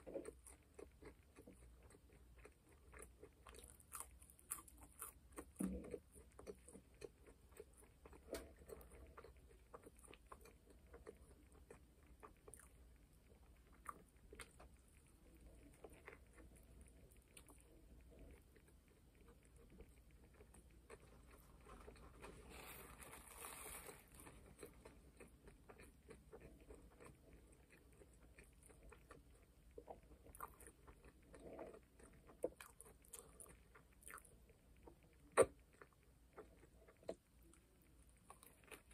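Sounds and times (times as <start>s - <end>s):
close-up chewing: 0.0s - 38.9s.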